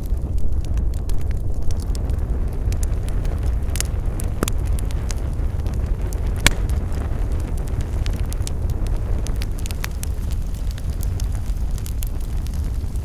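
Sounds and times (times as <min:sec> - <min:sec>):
campfire crackling: 0:00.0 - 0:13.0
low rumble: 0:00.0 - 0:13.0.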